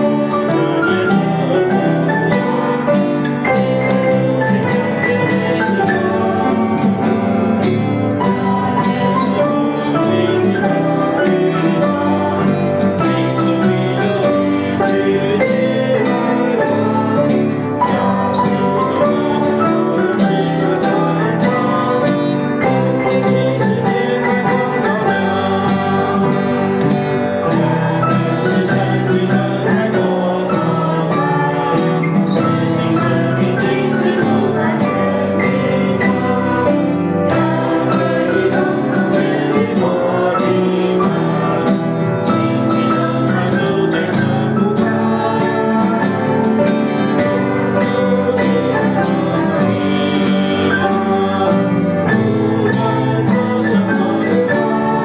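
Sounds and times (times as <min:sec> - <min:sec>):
acoustic guitar: 0:00.0 - 0:55.0
upright piano: 0:00.0 - 0:55.0.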